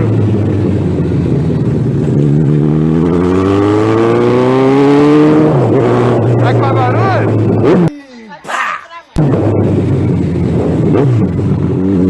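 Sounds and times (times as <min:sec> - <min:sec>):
motorcycle engine revving: 0:00.0 - 0:07.9, 0:09.2 - 0:12.0.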